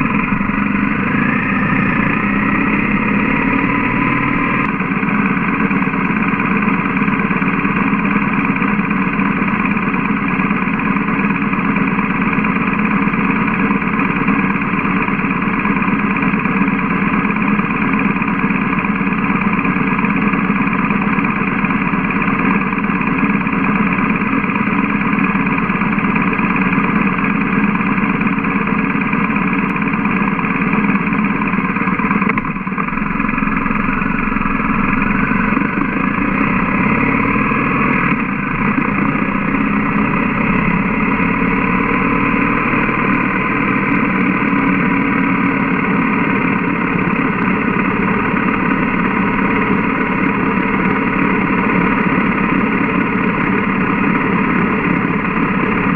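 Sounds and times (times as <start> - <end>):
motorcycle engine idling and pulling away: 0.0 - 55.9.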